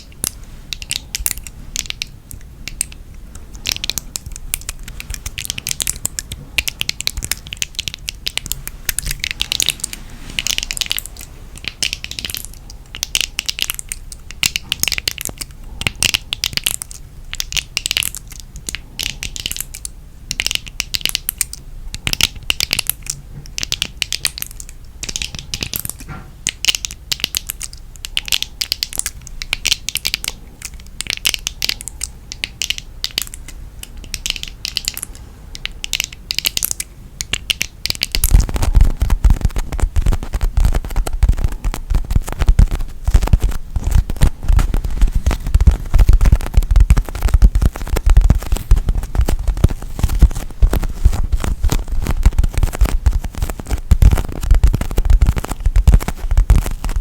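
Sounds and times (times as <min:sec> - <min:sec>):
rapid crackling and clicking: 0:00.0 - 0:57.0.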